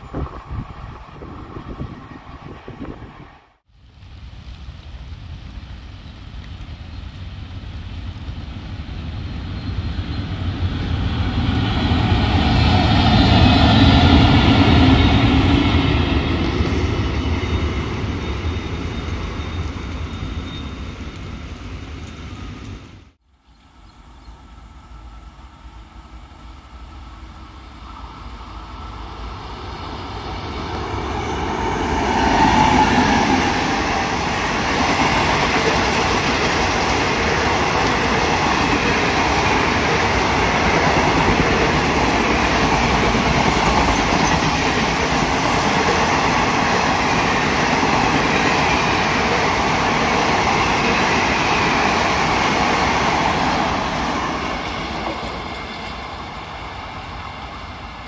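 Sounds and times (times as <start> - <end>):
train approaching: 0.0 - 58.0
train passing: 0.0 - 58.0.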